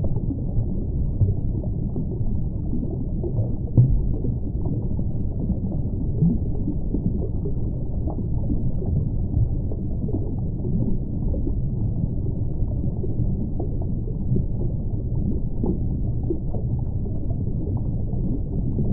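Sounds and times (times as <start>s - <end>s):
underwater rumble and gurgle: 0.0s - 18.9s.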